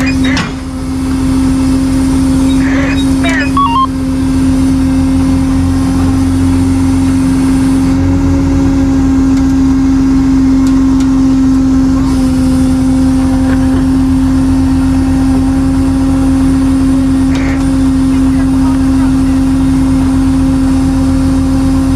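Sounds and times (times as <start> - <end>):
tow truck engine running: 0.0 - 21.9.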